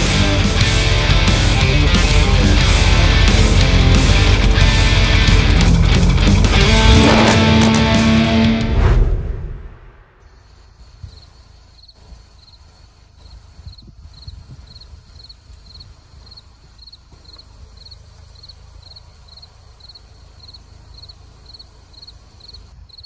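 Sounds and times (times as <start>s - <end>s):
low wind rumble: 2.4s - 23.0s.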